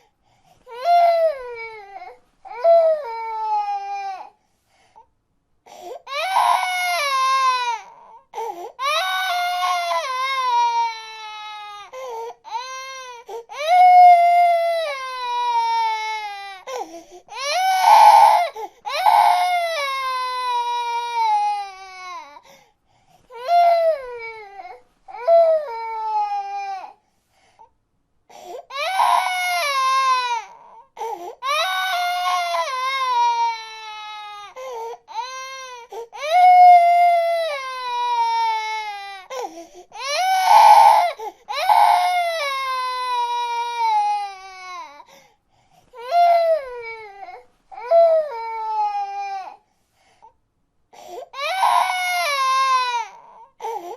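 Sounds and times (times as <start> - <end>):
baby crying: 0.7 - 4.4, 6.0 - 22.4, 23.3 - 27.0, 28.3 - 45.1, 46.0 - 49.6, 51.0 - 53.9.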